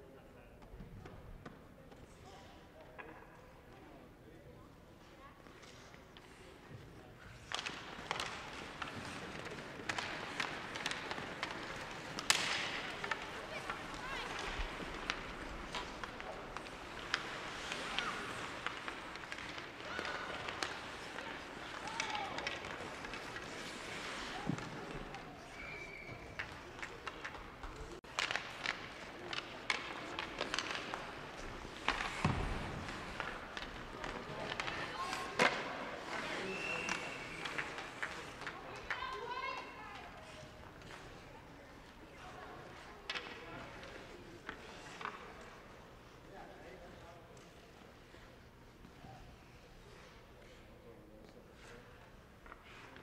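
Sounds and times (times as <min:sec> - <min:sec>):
hockey sticks and puck clacking: 0:00.5 - 0:53.0
skates scraping ice: 0:04.8 - 0:53.0.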